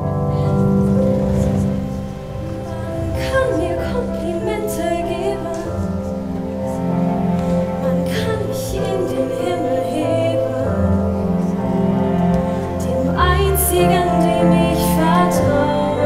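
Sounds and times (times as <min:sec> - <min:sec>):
instrumental accompaniment: 0:00.0 - 0:16.0
woman singing musical-theatre song: 0:00.0 - 0:16.0.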